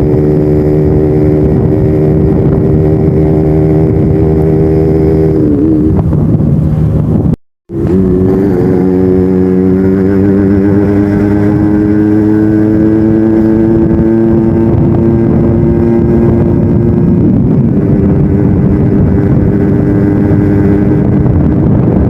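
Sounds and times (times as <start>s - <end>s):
two-stroke motorcycle engine running: 0.0s - 22.0s.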